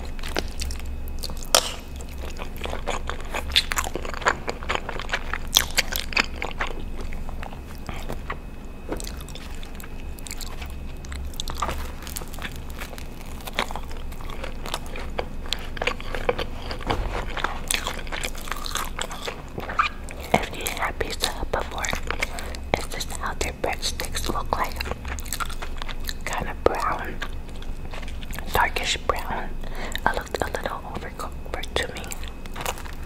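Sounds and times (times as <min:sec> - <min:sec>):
chewing pasta and bread: 0:00.0 - 0:33.0.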